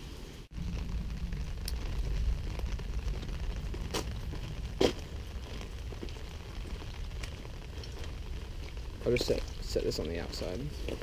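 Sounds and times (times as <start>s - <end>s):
steady low rumble: 0.0s - 11.0s
footsteps on wet gravel: 1.9s - 11.0s.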